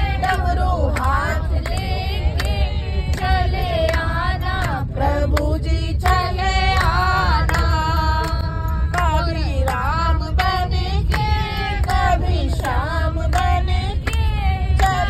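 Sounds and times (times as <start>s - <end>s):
low rumble of moving bus: 0.0s - 15.0s
women singing devotional song: 0.0s - 15.0s
hand claps: 0.2s - 15.0s.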